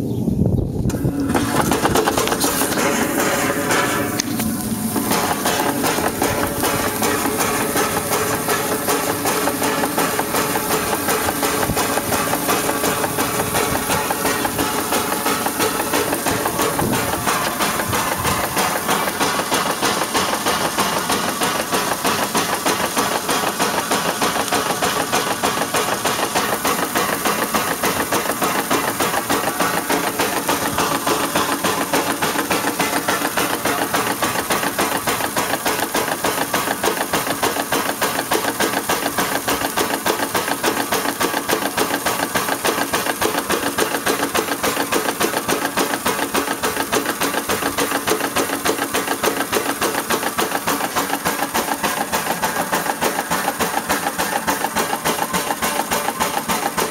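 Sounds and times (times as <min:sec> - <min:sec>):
small steam engine running: 0:00.9 - 0:56.9.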